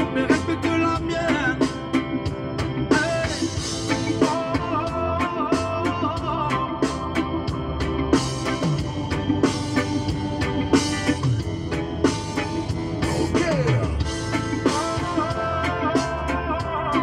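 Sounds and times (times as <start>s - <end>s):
gliding bass notes: 0.0s - 17.0s
song with drum beat: 0.0s - 17.0s.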